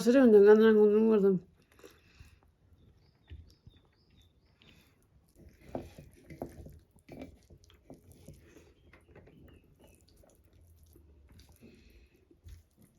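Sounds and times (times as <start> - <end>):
person chewing food: 1.5 - 12.9.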